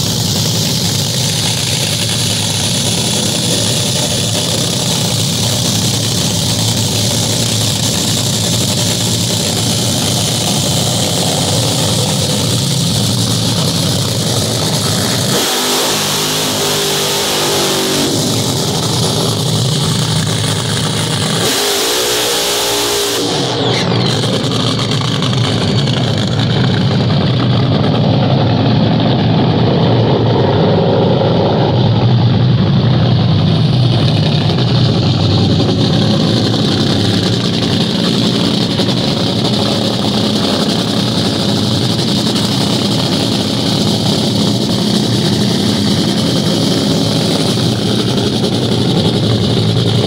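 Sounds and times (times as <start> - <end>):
dragster engine roaring: 0.0 - 50.0.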